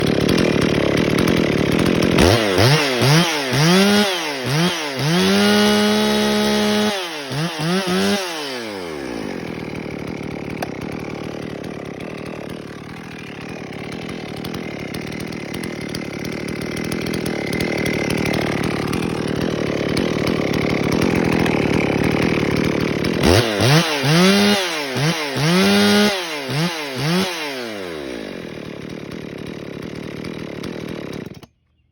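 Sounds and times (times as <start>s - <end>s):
chainsaw revving: 0.0s - 31.6s
chainsaw cutting wood: 0.0s - 31.9s.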